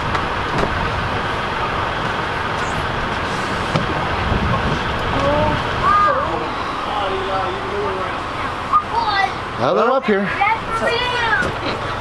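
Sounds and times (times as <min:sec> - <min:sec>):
heavy equipment engine running: 0:00.0 - 0:12.0.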